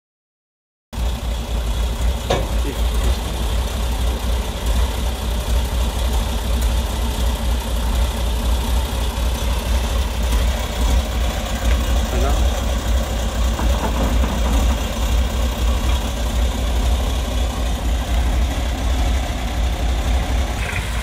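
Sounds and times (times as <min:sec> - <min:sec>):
diesel truck engine idling: 0:01.0 - 0:21.0.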